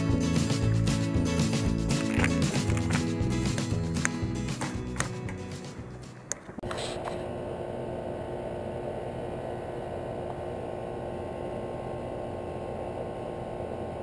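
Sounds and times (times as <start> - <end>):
air conditioner humming: 0.6 - 14.0.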